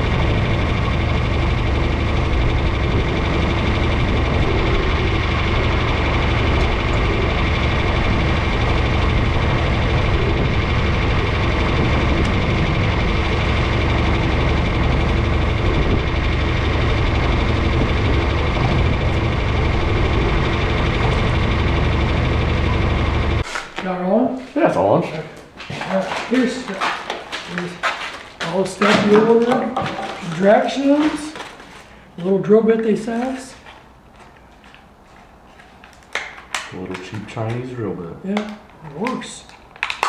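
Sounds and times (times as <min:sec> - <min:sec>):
vehicle engine droning: 0:00.0 - 0:36.0.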